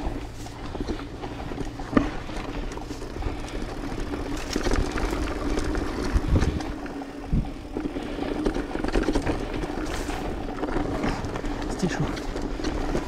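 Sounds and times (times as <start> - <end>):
bike rattling over bumps: 0.0 - 13.0
bike tyre noise on dirt: 0.0 - 13.0.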